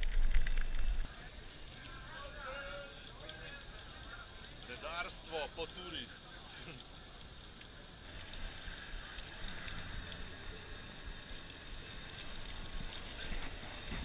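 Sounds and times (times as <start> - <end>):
hose spraying water: 1.0 - 14.0.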